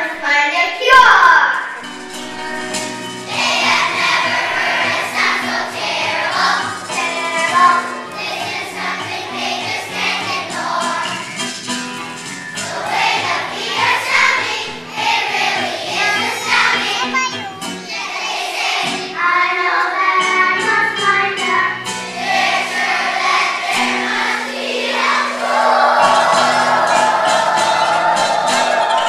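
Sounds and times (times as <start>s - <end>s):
children's choir singing: 1.5s - 29.0s
instrumental accompaniment: 1.5s - 29.0s.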